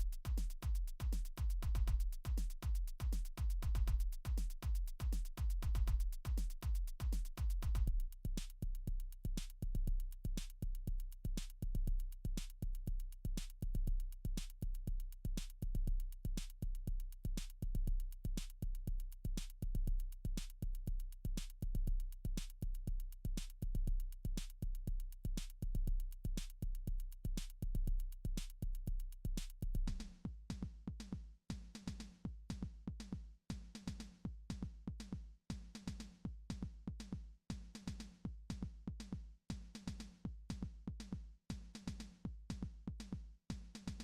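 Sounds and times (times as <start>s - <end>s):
drum machine beat: 0.0s - 44.0s.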